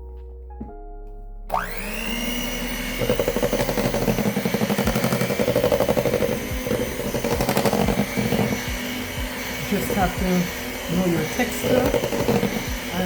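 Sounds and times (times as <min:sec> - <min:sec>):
electric mixer beating batter: 0:01.5 - 0:13.0.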